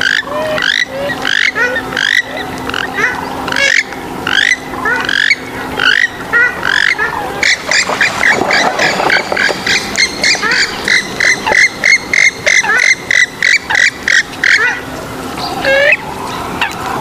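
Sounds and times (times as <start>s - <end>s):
waterbird calling sharp notes: 0.0s - 17.0s
wavering bird call: 0.0s - 17.0s.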